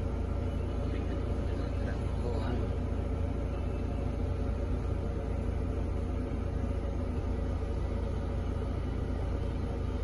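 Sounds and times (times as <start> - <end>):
coach engine rumble: 0.0 - 10.0.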